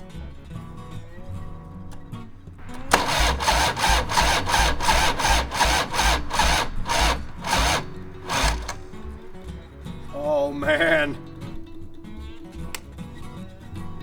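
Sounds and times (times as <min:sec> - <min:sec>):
motorcycle starter cranking: 0:00.0 - 0:14.0.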